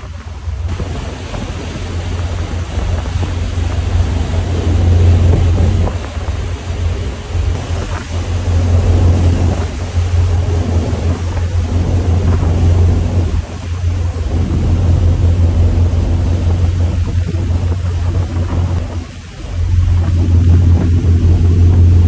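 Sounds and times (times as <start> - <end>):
churning wake rushing: 0.0 - 22.0
motorboat engine humming: 0.0 - 22.0
wind on microphone: 0.0 - 22.0.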